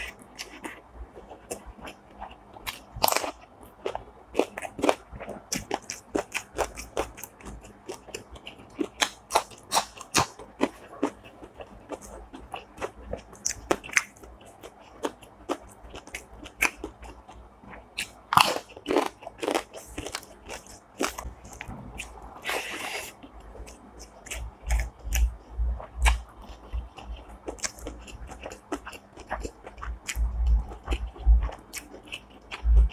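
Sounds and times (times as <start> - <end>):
person chewing crunchy food: 0.0 - 32.9.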